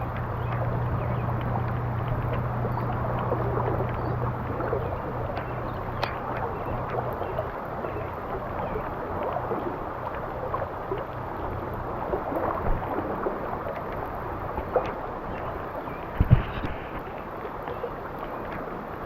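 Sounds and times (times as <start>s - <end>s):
faint ticks: 0.0s - 19.0s
stream water rushing: 0.0s - 19.0s.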